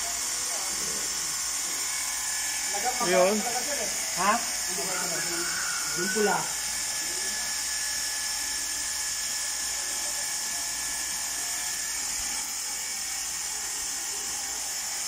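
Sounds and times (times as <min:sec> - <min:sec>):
faint motor whine: 0:00.0 - 0:15.0.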